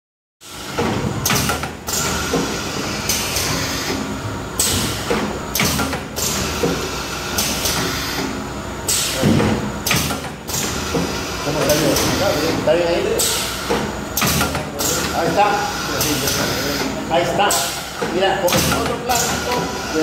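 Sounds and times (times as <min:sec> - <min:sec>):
packing machine humming: 0:00.4 - 0:20.0.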